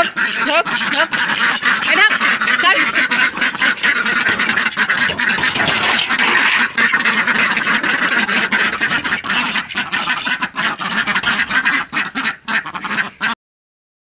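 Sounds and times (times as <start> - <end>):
ducks quacking: 0.0 - 13.4.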